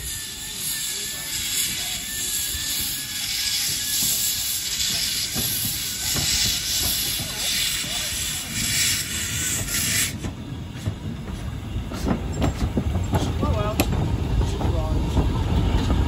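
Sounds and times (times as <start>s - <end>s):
locomotive rumble and clank: 0.0s - 16.0s
steam hissing: 0.0s - 16.0s.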